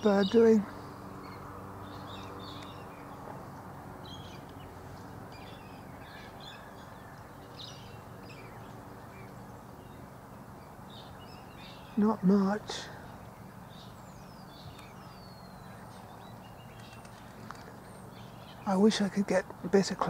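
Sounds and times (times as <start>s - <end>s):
distant wild bird calls: 0.0s - 20.0s
steady low hum: 0.0s - 20.0s.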